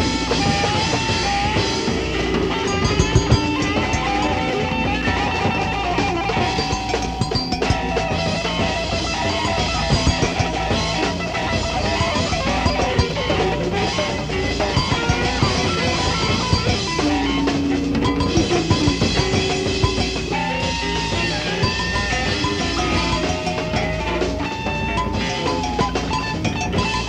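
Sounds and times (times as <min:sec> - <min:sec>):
busy drumming: 0:00.0 - 0:27.0.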